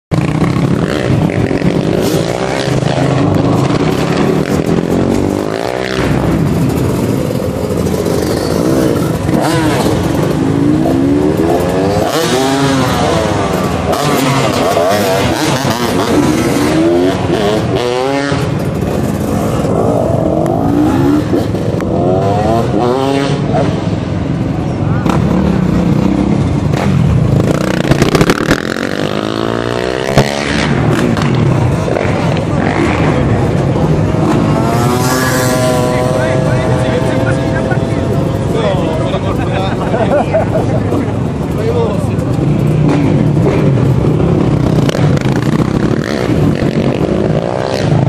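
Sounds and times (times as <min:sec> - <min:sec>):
motocross engines revving: 0:00.1 - 0:48.0.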